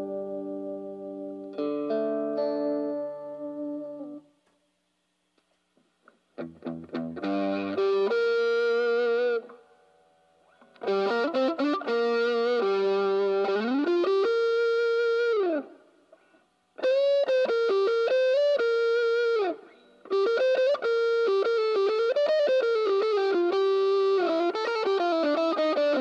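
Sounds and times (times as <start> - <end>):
electric guitar lead phrases: 0.0 - 4.3, 6.4 - 26.0.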